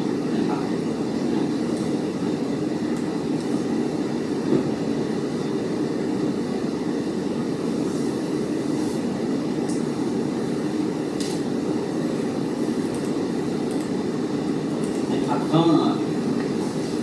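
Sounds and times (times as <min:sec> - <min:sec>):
low rumbling room noise: 0:00.0 - 0:17.0.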